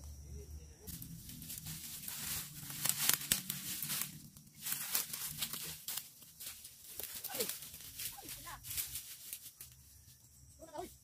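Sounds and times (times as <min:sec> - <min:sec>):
leaves and twigs crackling: 0:00.0 - 0:11.0.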